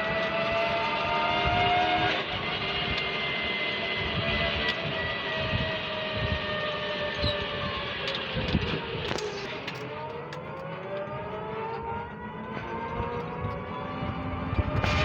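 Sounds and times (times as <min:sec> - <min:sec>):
train electric drive whine: 0:00.0 - 0:15.0
train rumble: 0:00.0 - 0:15.0.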